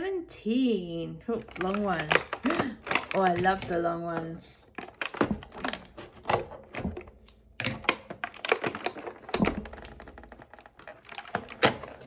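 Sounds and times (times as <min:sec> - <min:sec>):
packaging rustling: 0:01.4 - 0:12.0.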